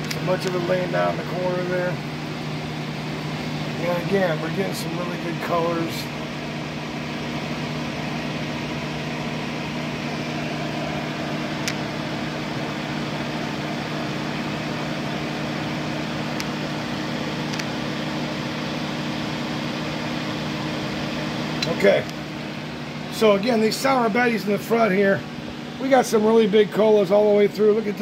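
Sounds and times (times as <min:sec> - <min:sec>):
electric fans humming: 0:00.0 - 0:28.0.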